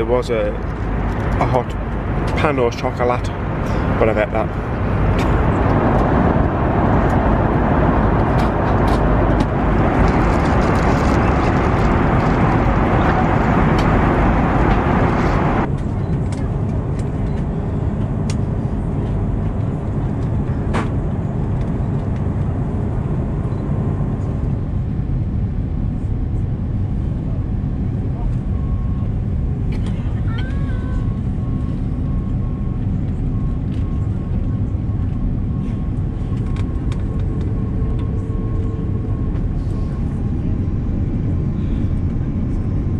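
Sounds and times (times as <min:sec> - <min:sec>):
airliner cabin noise: 0:00.0 - 0:42.9.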